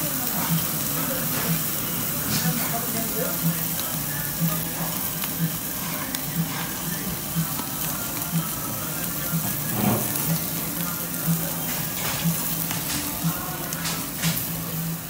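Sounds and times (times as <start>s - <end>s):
meat sizzling on grill plate: 0.0s - 15.0s.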